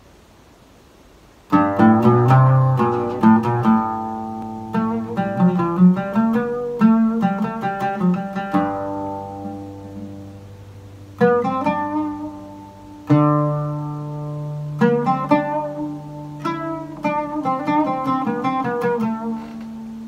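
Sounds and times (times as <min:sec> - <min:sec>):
oud being plucked: 0:01.5 - 0:20.0.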